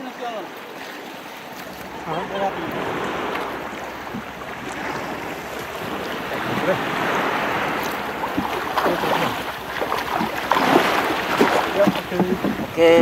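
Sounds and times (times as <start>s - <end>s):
sea water lapping around boat: 0.0s - 13.0s.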